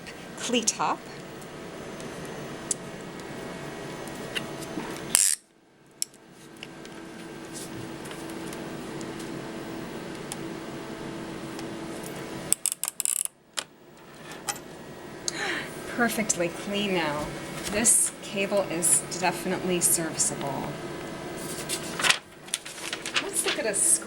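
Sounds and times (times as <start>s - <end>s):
steady low hum: 0.0s - 12.7s, 13.4s - 24.0s.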